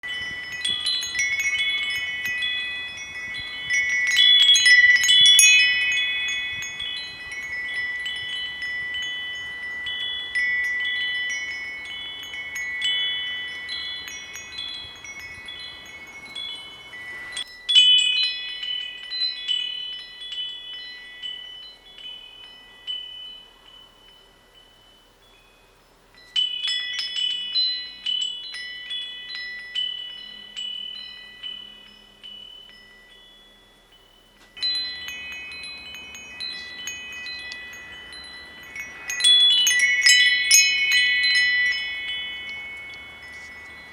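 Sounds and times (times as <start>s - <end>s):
wind chime ringing: 0.0s - 43.9s.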